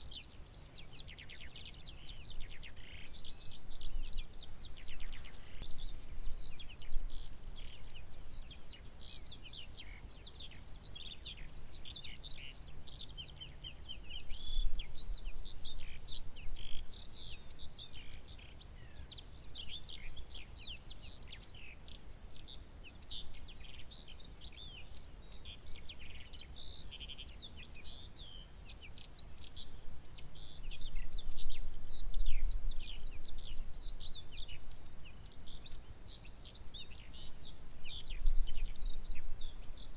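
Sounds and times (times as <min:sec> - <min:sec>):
birdsong chirps and whistles: 0:00.0 - 0:39.9.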